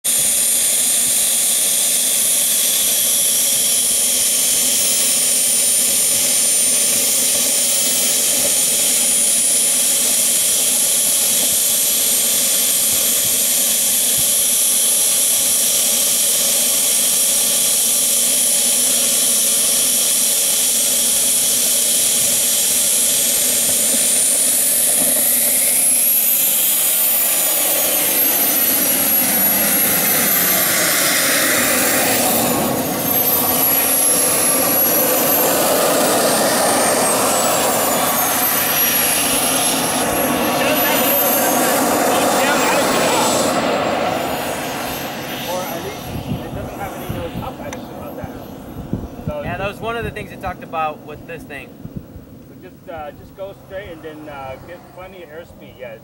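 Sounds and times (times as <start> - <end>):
model jet turbine whine: 0.0 - 56.0
rushing exhaust: 0.0 - 56.0.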